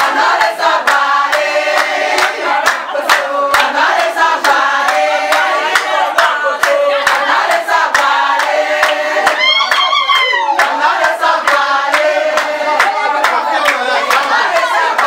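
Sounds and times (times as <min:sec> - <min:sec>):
rhythmic hand clapping: 0:00.0 - 0:15.0
women singing together: 0:00.0 - 0:15.0.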